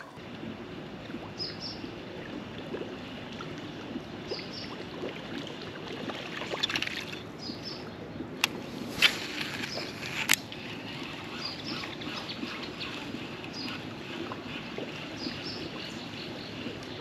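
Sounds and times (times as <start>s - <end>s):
water lapping against hull: 0.0s - 17.0s.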